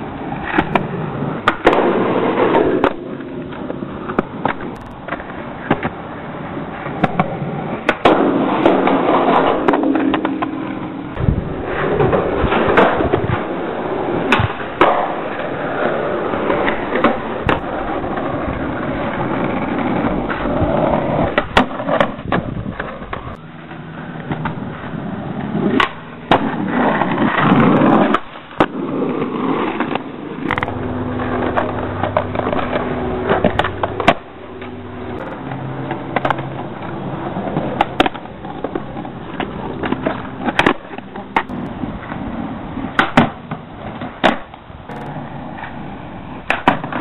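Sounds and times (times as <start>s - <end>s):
skateboard clacking: 0.0s - 47.0s
skateboard wheels rolling on concrete: 0.0s - 47.0s.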